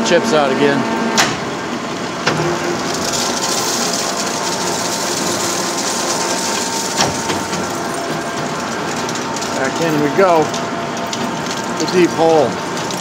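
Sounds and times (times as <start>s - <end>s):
lathe running: 1.4s - 13.0s
coolant pouring and splashing: 1.8s - 13.0s.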